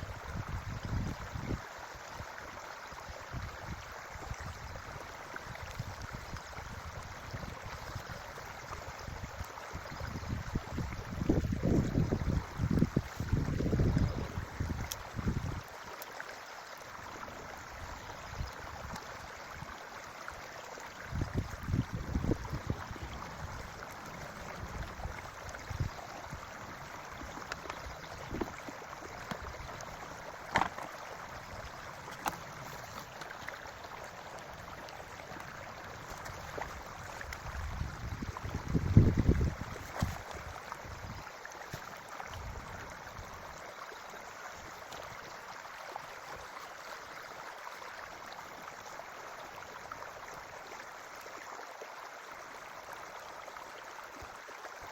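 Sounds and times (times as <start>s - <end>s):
creek flowing: 0.0s - 54.9s.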